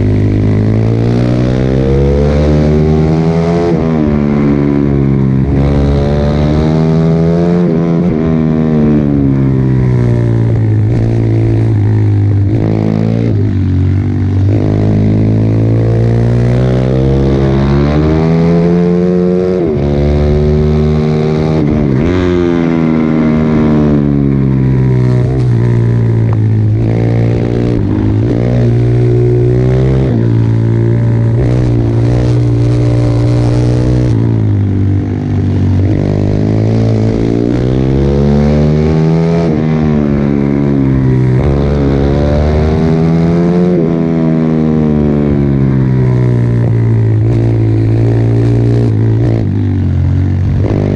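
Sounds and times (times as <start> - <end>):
pit bike engine revving: 0.0 - 50.9.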